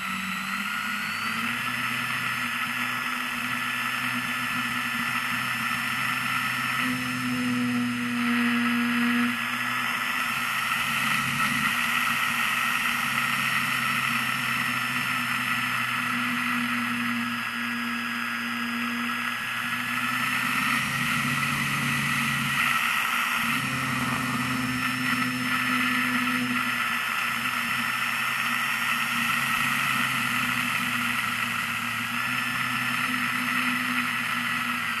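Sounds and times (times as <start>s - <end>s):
model airplane motor droning: 0.0s - 35.0s.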